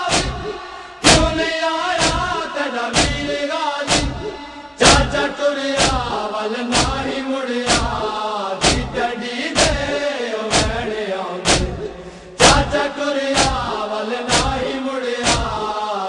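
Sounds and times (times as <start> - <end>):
rhythmic chest-beating slaps: 0.0 - 15.9
men chanting in unison: 0.0 - 16.0.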